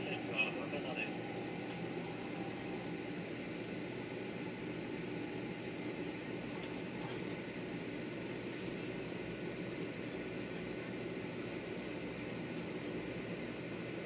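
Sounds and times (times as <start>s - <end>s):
train cabin rumble and hiss: 0.0s - 14.0s.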